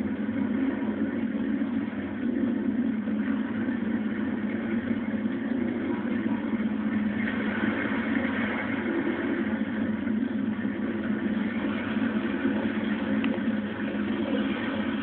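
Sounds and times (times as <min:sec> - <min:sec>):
low engine-like drone: 0:00.0 - 0:15.0.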